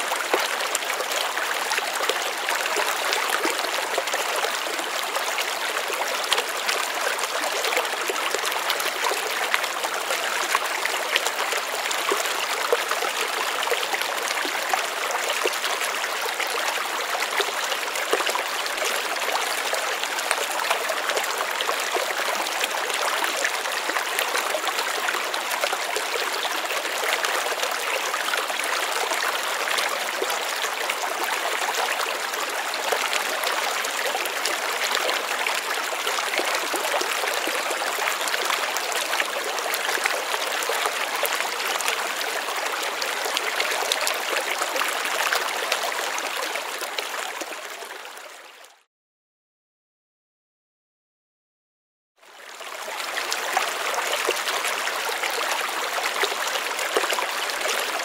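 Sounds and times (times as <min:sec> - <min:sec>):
stream babbling over rocks: 0:00.0 - 0:48.4, 0:52.2 - 0:58.0.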